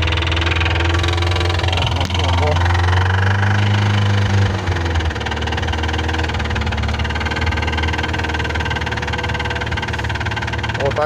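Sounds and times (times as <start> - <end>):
car engine idling with knock: 0.0 - 11.0.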